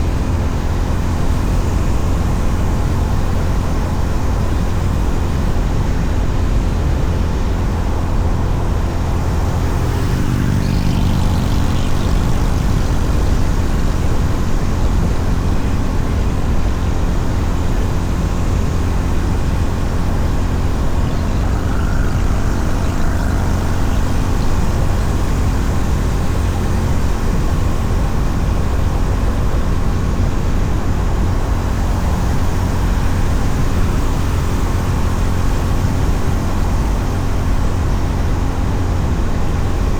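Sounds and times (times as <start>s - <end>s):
motorcycle engine running: 0.0s - 35.6s
wind and road noise rumble: 0.0s - 39.9s.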